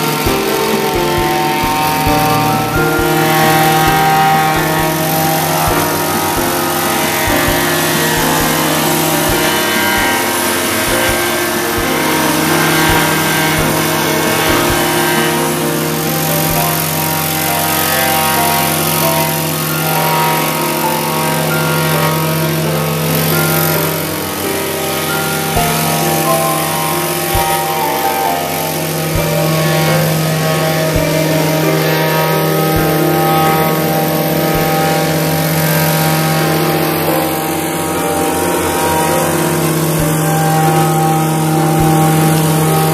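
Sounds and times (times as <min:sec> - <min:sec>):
plate compactor engine droning: 0:00.0 - 0:42.9
plate pounding gravel: 0:00.0 - 0:42.9.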